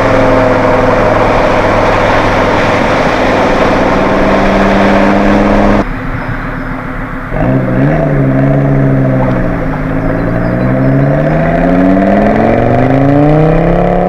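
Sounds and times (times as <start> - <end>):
car engine under load: 0.0 - 14.0.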